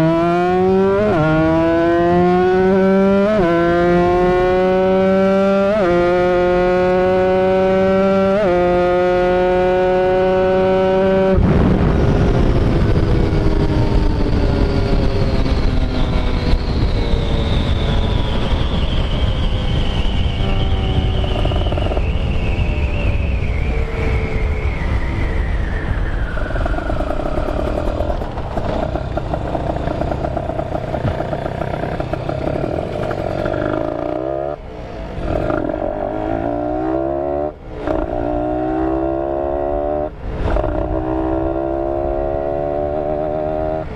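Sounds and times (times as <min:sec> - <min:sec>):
motorcycle engine: 0:00.0 - 0:43.9
wind rushing: 0:06.2 - 0:43.9.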